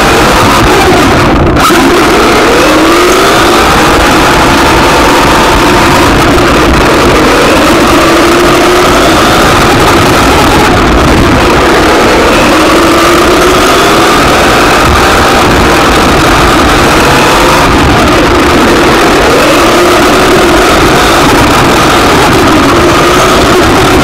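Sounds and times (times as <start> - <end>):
rc car motor revving: 0.0 - 24.0
steady rush of noise: 0.0 - 24.0.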